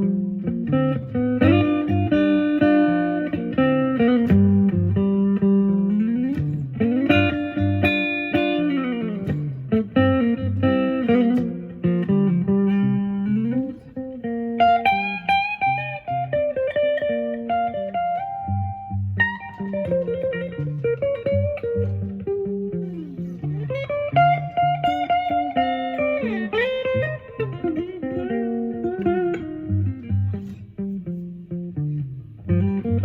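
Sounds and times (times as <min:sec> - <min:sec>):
electric guitar playing slow blues: 0:00.0 - 0:33.0.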